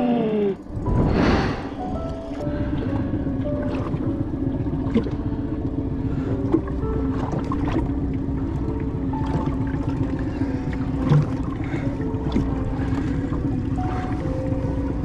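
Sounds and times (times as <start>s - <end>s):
water slopping against boat hull: 2.2s - 15.0s.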